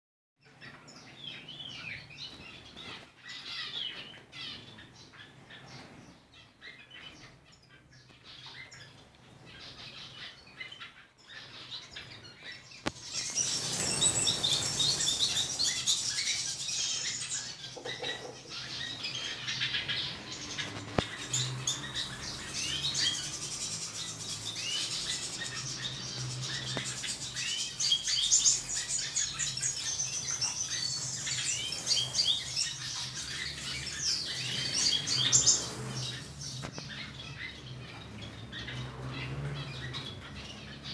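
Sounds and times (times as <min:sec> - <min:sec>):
small birds chirping: 0:00.4 - 0:40.9.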